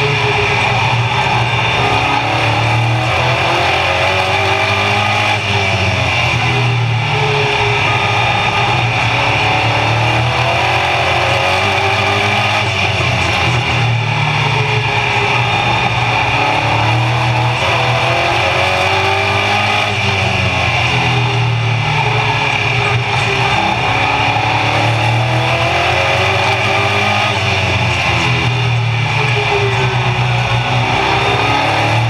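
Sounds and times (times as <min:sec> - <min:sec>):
race car engine revving: 0:00.0 - 0:32.0.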